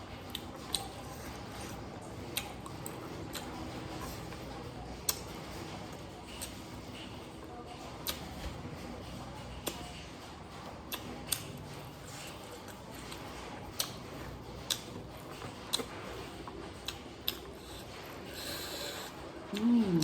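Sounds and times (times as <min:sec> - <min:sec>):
chewing with mouth clicks: 0:00.0 - 0:07.2, 0:07.9 - 0:20.0.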